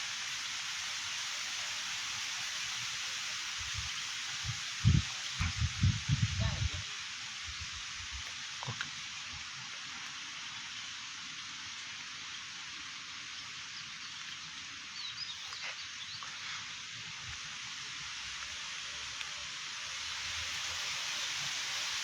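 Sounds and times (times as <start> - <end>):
outdoor hiss: 0.0 - 22.0.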